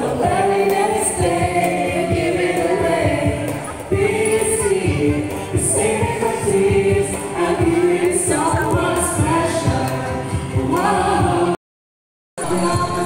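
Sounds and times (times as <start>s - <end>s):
vocal group singing: 0.0s - 11.6s, 12.4s - 13.0s.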